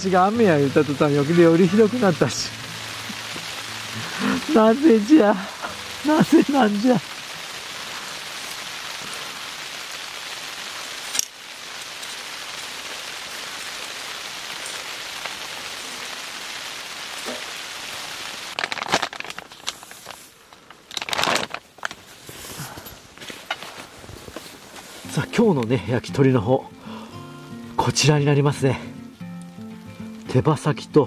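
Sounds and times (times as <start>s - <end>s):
heavy rain and sleet on tent: 0.0s - 31.0s.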